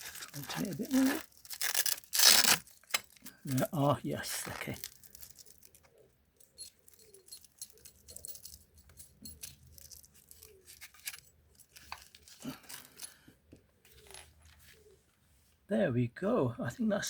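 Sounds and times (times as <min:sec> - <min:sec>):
velcro strap rustling: 0:00.0 - 0:13.2, 0:13.8 - 0:14.9.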